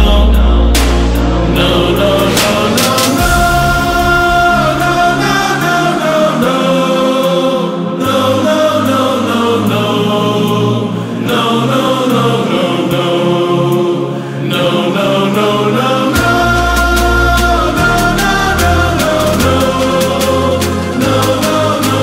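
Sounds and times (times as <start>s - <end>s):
sustained layered chords: 0.0s - 22.0s.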